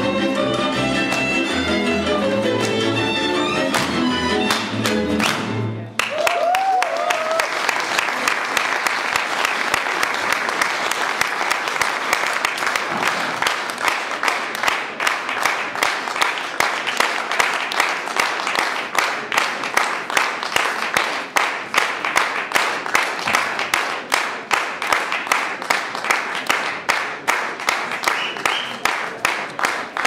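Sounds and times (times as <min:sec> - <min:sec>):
rhythmic clapping in unison: 0:00.0 - 0:30.0
scattered clapping: 0:03.6 - 0:30.0.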